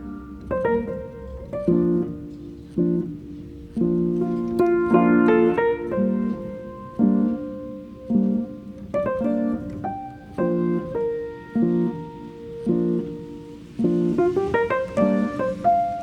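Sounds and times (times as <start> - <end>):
piano chords with held melody: 0.0 - 16.0.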